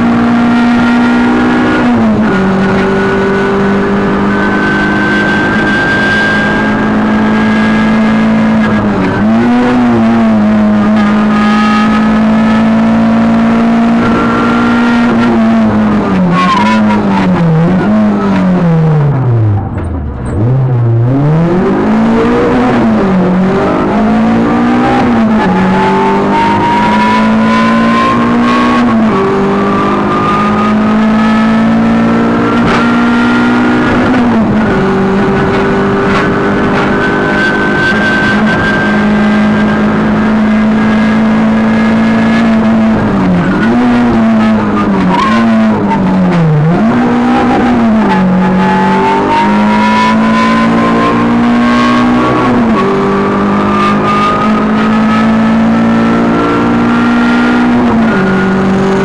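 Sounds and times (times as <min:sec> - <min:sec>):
rally car engine revving: 0:00.0 - 0:59.0
rising whine: 0:00.0 - 0:59.0.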